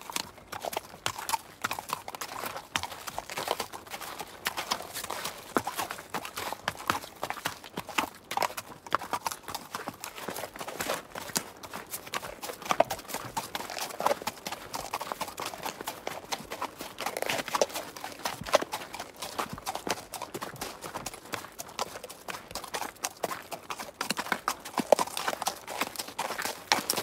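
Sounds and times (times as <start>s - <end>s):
horse hooves trotting: 0.0s - 27.0s.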